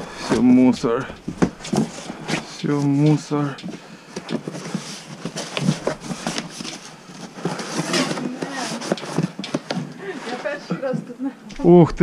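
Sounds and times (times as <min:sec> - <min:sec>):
cardboard rustling and scraping: 0:00.2 - 0:11.1.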